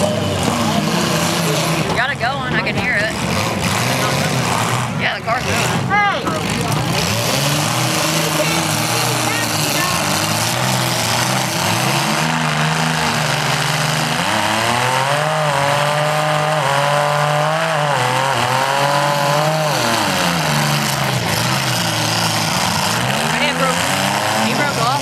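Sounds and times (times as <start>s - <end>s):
car engine revving: 0.0s - 25.0s
car engines running: 0.0s - 25.0s.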